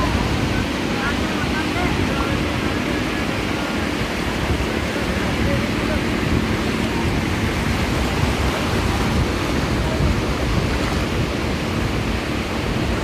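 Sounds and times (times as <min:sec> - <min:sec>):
sea surf washing: 0:00.0 - 0:13.0
wind buffeting microphone: 0:00.0 - 0:13.0.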